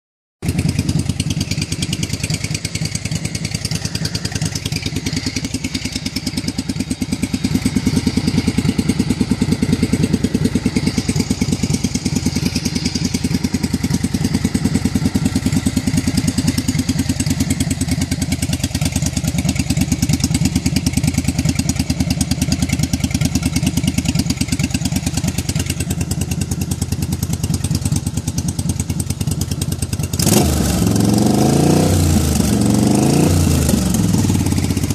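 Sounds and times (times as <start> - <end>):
motorcycle engine running: 0.4 - 34.9.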